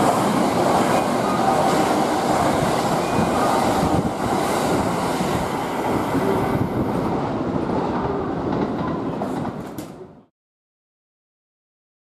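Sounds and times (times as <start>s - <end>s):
train wheels rumbling on rail: 0.0s - 10.2s.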